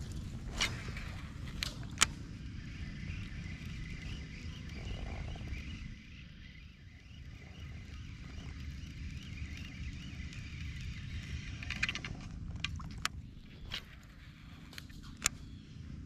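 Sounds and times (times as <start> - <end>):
faint fluttering high hum: 0.0 - 16.0
wind rumbling on microphone: 0.0 - 16.0.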